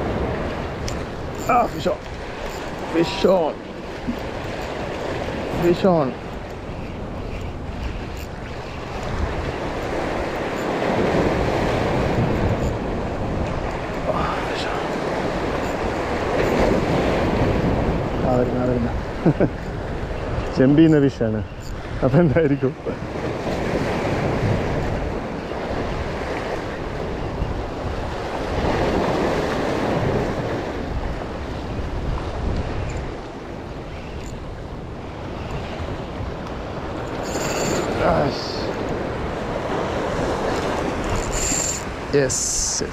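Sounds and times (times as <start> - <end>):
sea waves breaking over rocks: 0.0 - 42.9
wind buffeting microphone: 0.0 - 42.9.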